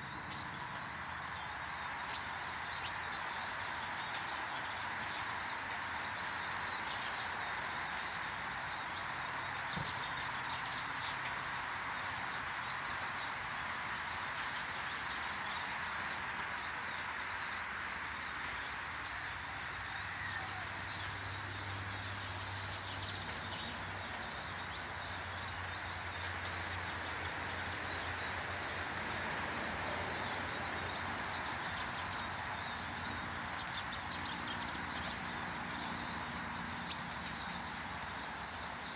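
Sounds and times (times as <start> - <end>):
small birds chirping: 0.0 - 38.9
steady outdoor hiss: 0.0 - 38.9.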